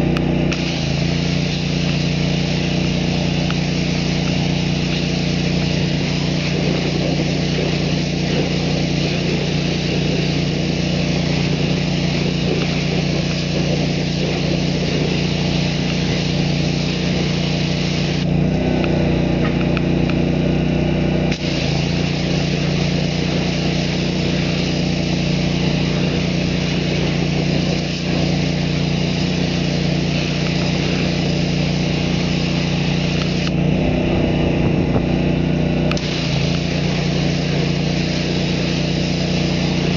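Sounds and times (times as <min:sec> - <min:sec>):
pressure washer engine running: 0:00.0 - 0:39.9
spray wand hissing: 0:00.5 - 0:18.4, 0:21.3 - 0:34.4, 0:35.9 - 0:39.9.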